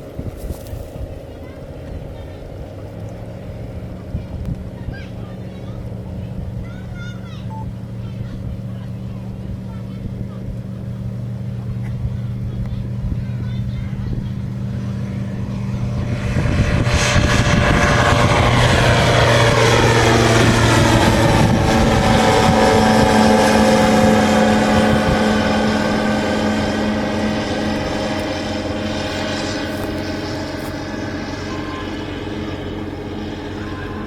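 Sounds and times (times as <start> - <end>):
light aircraft engine and propeller drone: 0.0 - 34.0.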